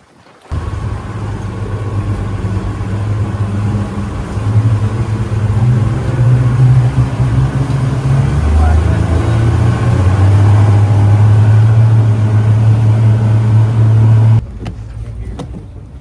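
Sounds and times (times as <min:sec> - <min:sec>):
engine low rumble: 0:00.5 - 0:16.0.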